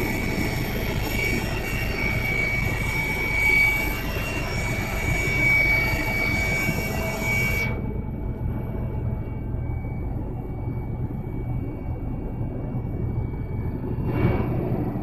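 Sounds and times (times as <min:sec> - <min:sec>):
helicopter high whine: 0:00.0 - 0:15.0
helicopter low rumble: 0:00.0 - 0:15.0.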